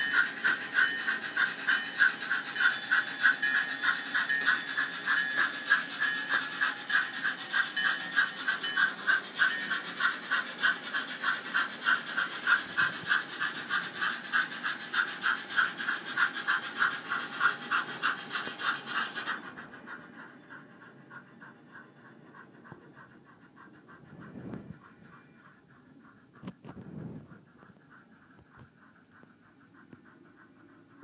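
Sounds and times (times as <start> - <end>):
model steam locomotive chuffing: 0.0 - 31.0.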